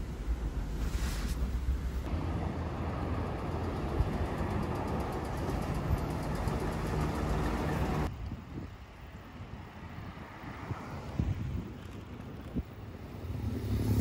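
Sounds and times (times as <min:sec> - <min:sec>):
vehicle rumbling in motion: 0:00.0 - 0:14.0.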